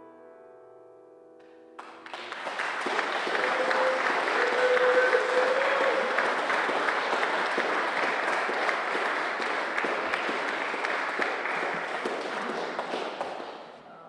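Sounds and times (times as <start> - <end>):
audience applauding: 1.8 - 14.0.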